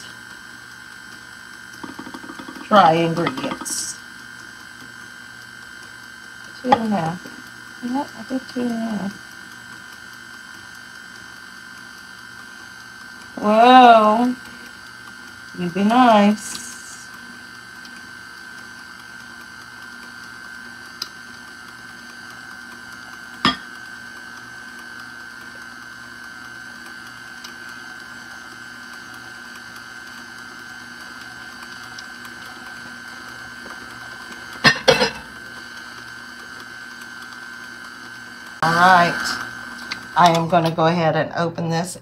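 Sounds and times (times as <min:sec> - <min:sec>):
stand mixer running: 0:00.0 - 0:40.5.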